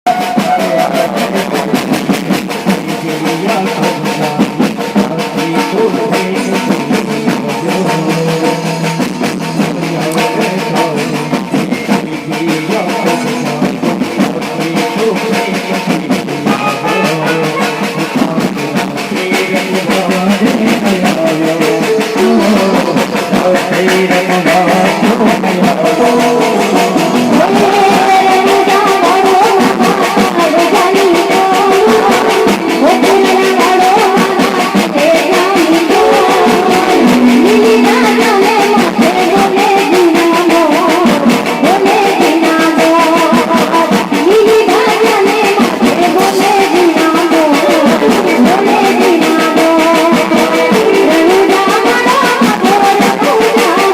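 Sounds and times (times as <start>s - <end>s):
fast drum beat: 0.0s - 53.9s
loud music with singing: 0.1s - 53.9s.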